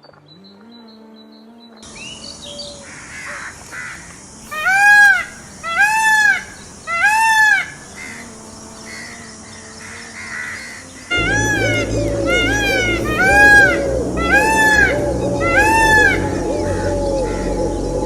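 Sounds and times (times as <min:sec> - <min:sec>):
peacock calling: 0:01.9 - 0:18.0.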